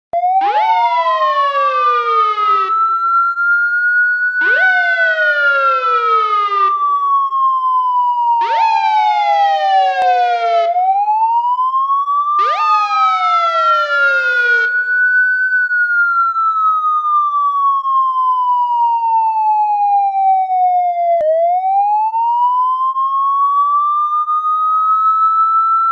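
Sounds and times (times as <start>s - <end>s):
second siren tone gliding: 0.2s - 11.6s, 12.4s - 22.5s
police siren wail: 0.2s - 25.9s.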